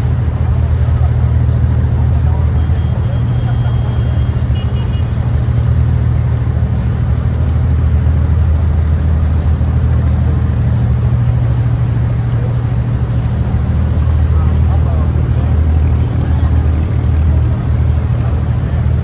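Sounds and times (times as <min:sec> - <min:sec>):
boat diesel engine droning: 0:00.0 - 0:19.0.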